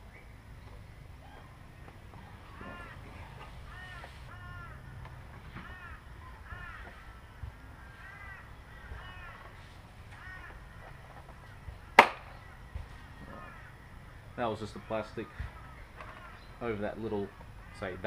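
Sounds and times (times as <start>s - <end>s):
crow cawing: 2.1s - 12.5s, 13.2s - 18.0s.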